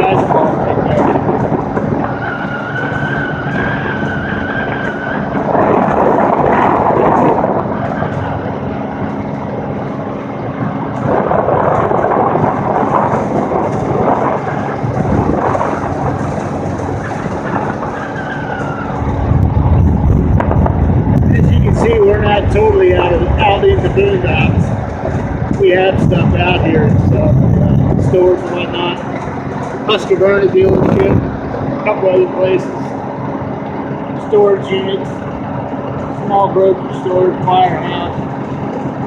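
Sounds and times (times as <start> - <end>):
road and engine noise: 0.0 - 39.0
thin wavering whine: 0.0 - 39.0.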